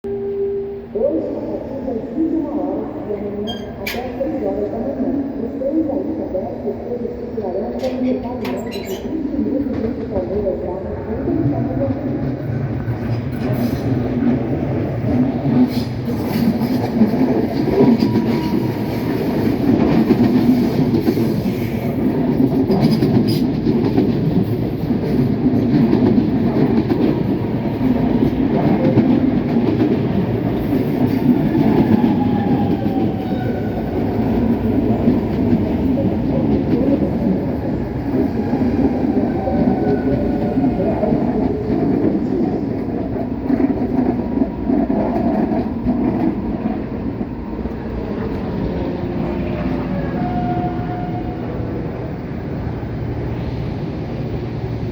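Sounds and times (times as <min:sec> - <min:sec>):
electric train rumbling: 0:00.0 - 0:54.9
falling whine of train: 0:00.0 - 0:54.9.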